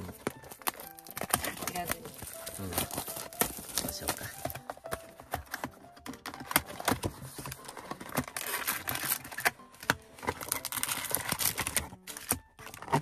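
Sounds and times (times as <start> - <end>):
plastic wrapping tearing and crinkling: 0.0 - 13.0.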